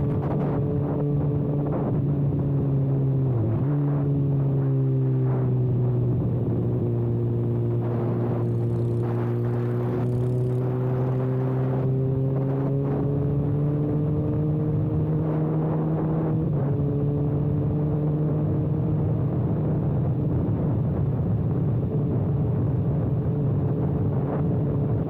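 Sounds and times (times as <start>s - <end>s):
motorcycle engine running loud: 0.0s - 25.0s.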